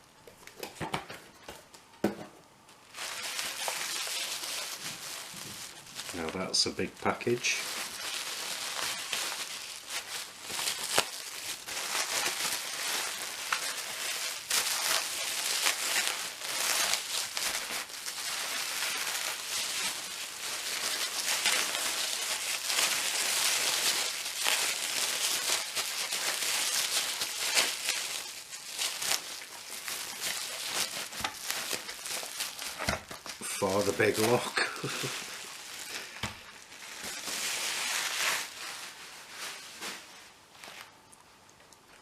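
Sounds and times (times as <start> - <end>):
packing material crinkling: 2.6 - 42.0.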